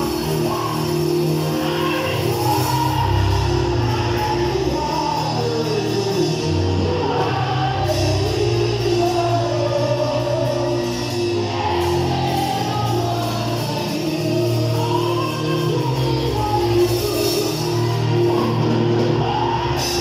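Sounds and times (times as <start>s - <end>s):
amplified band accompaniment: 0.0s - 20.0s
man singing: 0.0s - 20.0s.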